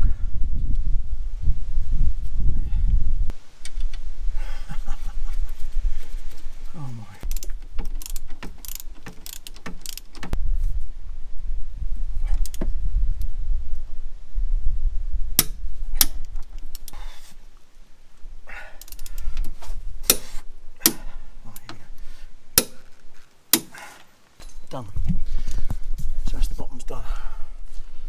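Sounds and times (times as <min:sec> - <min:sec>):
low rumbling handling noise: 0:00.0 - 0:26.4.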